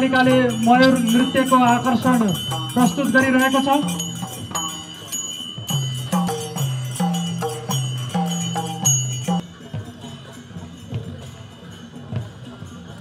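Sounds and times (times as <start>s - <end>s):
jingling bells: 0.0s - 13.0s.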